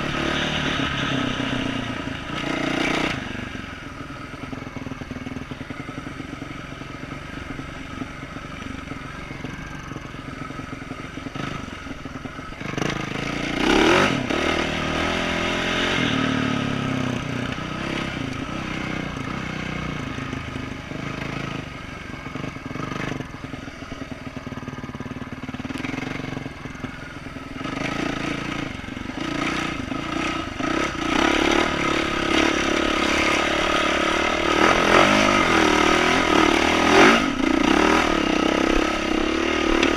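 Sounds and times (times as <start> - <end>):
dirt bike engine revving: 0.0 - 3.9, 4.5 - 39.9.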